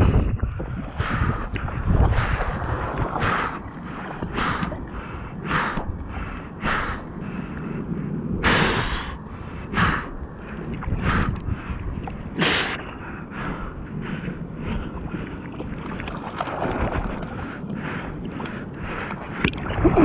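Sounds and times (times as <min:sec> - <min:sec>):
wind rumble on microphone: 0:00.0 - 0:20.0
person breathing hard: 0:00.9 - 0:15.8, 0:17.3 - 0:19.5.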